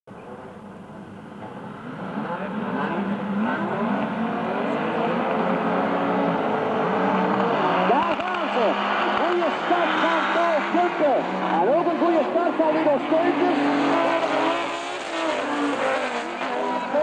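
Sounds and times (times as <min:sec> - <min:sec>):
rally car engines revving: 0:00.2 - 0:17.0.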